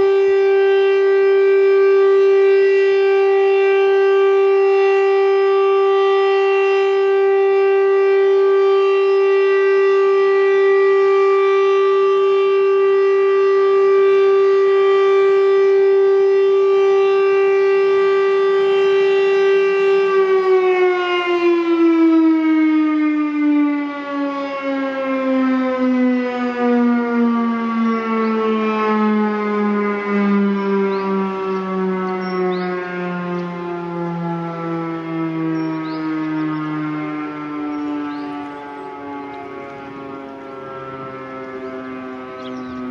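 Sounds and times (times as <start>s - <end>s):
siren steady tone: 0.0s - 42.9s.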